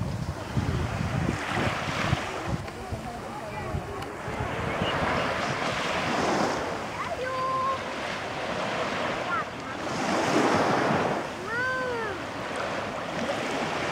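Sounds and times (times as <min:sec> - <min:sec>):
surf breaking on beach: 0:00.0 - 0:13.9
wind on microphone: 0:00.0 - 0:13.9.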